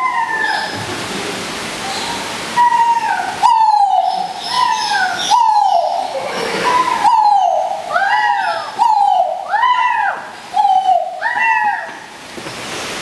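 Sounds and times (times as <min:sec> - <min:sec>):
peacock wailing calls: 0:00.0 - 0:00.8, 0:01.9 - 0:12.1.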